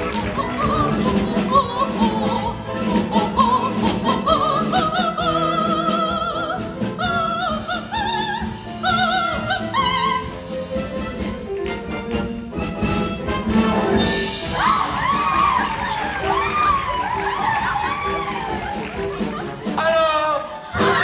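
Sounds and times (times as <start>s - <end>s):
operatic soprano singing: 0.0s - 10.8s, 14.1s - 21.0s
orchestral backing: 0.0s - 21.0s.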